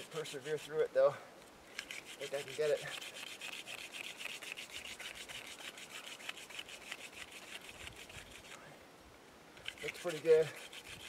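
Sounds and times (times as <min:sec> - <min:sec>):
wooden spindle rubbing in hearth board: 0:00.0 - 0:00.9, 0:01.7 - 0:08.7, 0:09.6 - 0:11.0.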